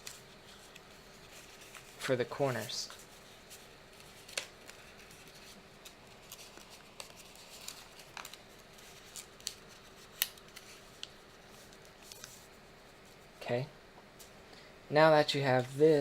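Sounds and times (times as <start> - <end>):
paper rustling and crackling: 0.0 - 13.2.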